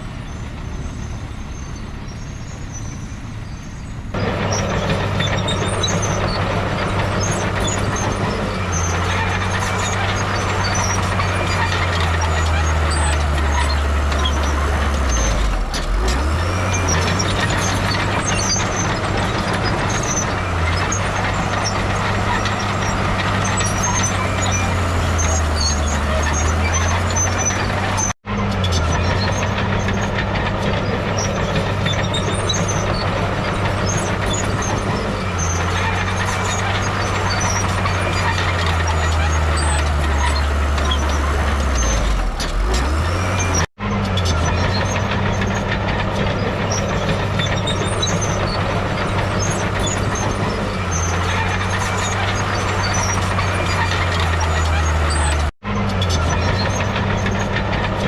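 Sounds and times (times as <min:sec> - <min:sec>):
heavy diesel machinery running: 0:00.0 - 0:58.0
high squeaks: 0:00.0 - 0:58.0.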